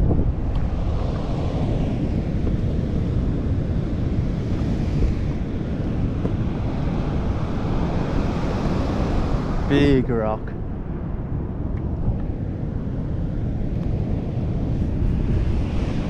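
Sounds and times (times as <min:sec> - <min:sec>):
choppy sea: 0:00.0 - 0:16.0
wind buffeting microphone: 0:00.0 - 0:16.0.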